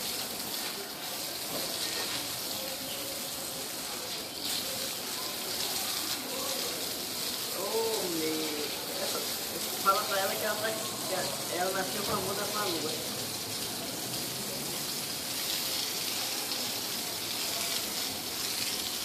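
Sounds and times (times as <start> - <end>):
hose water splashing on tiles: 0.0 - 19.0.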